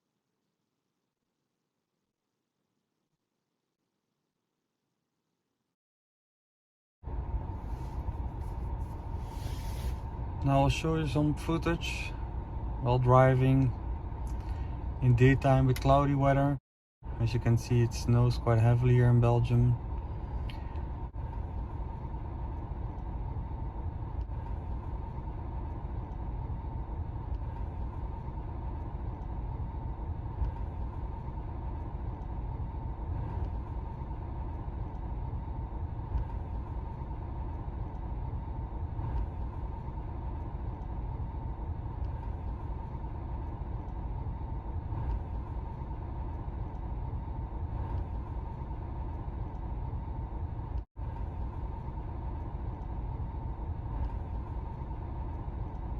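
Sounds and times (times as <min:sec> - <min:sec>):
faint steady whine: 0:07.0 - 0:55.9
car engine and road rumble: 0:07.1 - 0:55.9.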